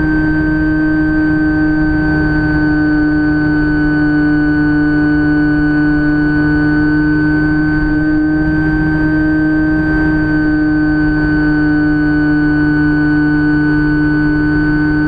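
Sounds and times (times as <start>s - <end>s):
electric motor and propeller whine: 0.0s - 15.0s
wind rumble against camera: 0.0s - 15.0s.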